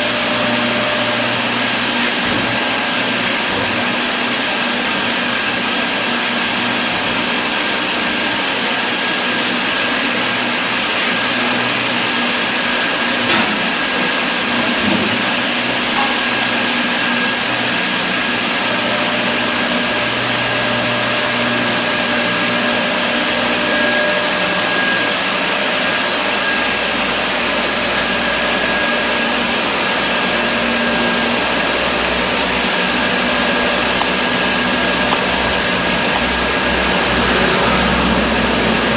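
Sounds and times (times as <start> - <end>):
machinery whirring: 0.0 - 38.9.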